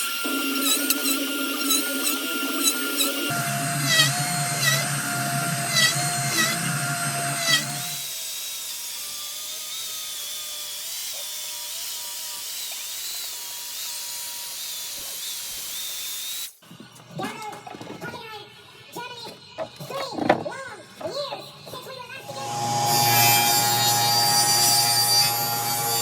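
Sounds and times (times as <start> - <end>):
power tool whining: 0.0 - 16.6, 19.5 - 26.0.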